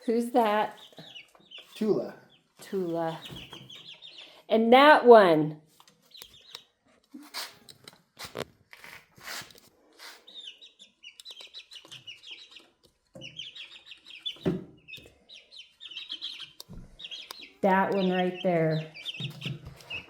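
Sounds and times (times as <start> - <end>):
chicks peeping: 0.1 - 4.5, 5.7 - 20.0.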